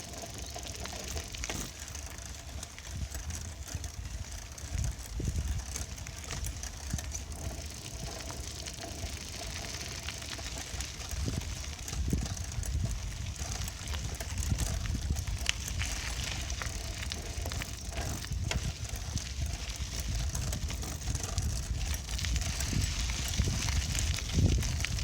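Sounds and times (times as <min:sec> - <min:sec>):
bicycle rolling over rough surface: 0:00.0 - 0:25.0
wind buffeting microphone: 0:01.0 - 0:25.0.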